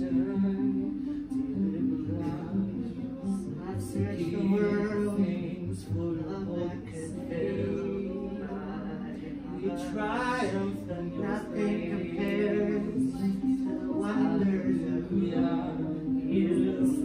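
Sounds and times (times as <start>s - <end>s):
voices singing unaccompanied: 0.0s - 17.0s.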